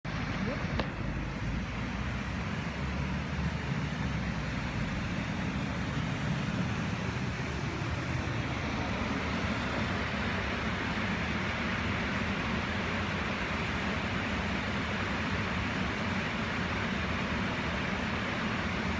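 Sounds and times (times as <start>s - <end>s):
heavy downpour: 0.1s - 18.9s
rushing floodwater: 0.1s - 18.9s.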